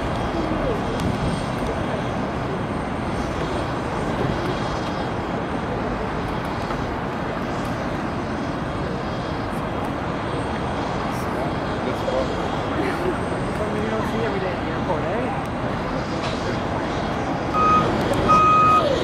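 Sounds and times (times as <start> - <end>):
faint high engine whine: 0.0 - 19.0
jet engines running: 0.0 - 19.0.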